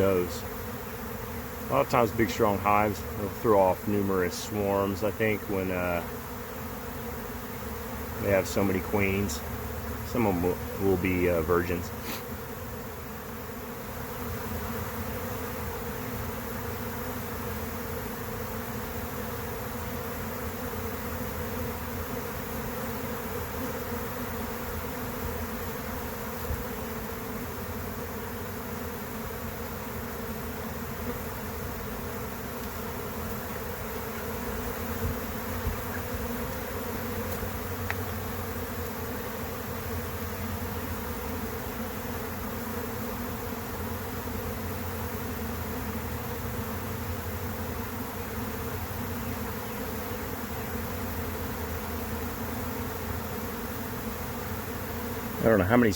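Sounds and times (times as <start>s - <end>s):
bee swarm buzzing: 0.0s - 55.9s.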